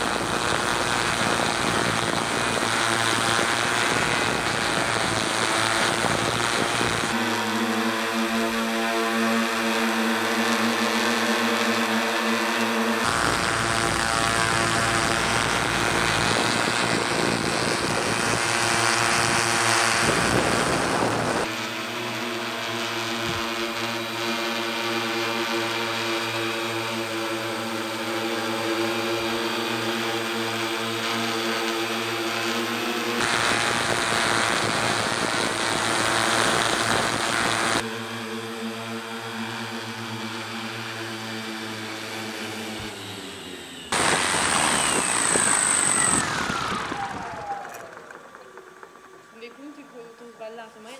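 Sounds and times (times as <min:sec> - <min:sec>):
drone propellers humming: 0:00.0 - 0:50.9.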